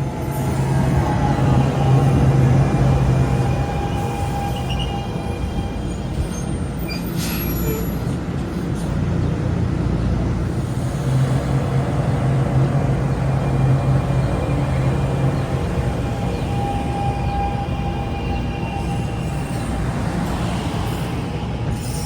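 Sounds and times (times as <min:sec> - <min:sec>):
electric train hum and whine: 0:00.0 - 0:22.0.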